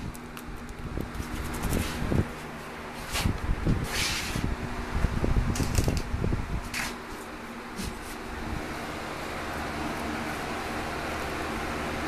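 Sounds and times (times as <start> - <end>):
box fan humming: 0.0 - 12.0.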